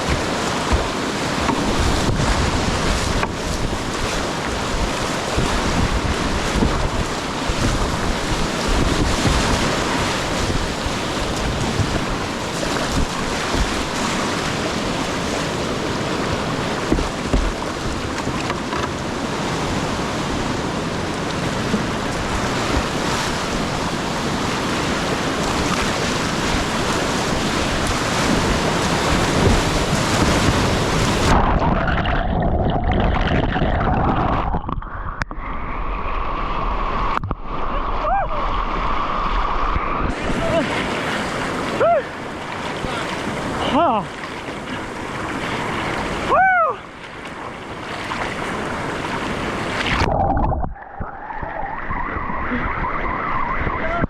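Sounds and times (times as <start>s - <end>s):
whitewater rapids roaring: 0.0s - 32.2s, 36.2s - 50.4s
wind buffeting microphone: 0.0s - 43.7s, 47.1s - 54.0s.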